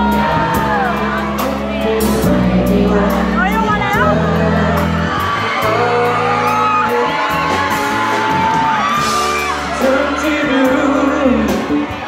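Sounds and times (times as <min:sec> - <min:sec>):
drums: 0:00.0 - 0:12.0
man singing: 0:00.0 - 0:12.0.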